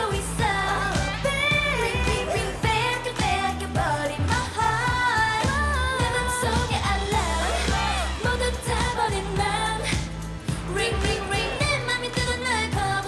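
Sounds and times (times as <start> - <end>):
deep bass line: 0.0 - 13.0
women singing over hip-hop beat: 0.0 - 13.0.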